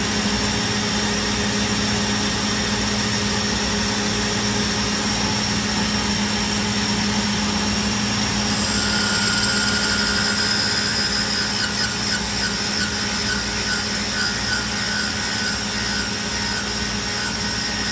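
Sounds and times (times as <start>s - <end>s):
higher wavering machine whine: 0.0s - 17.9s
lathe hum and whine: 0.0s - 17.9s.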